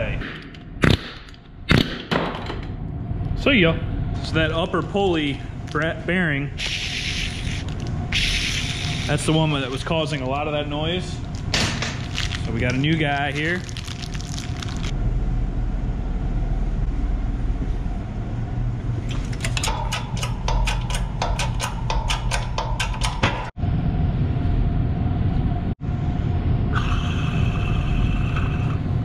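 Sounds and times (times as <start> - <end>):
low mechanical rumble: 0.0 - 29.0.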